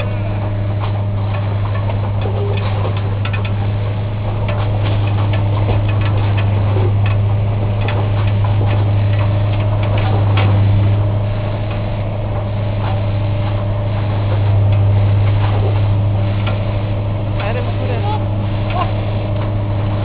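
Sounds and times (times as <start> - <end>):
machine clicks and knocks on rails: 0.0 - 20.0
train engine low drone: 0.0 - 20.0.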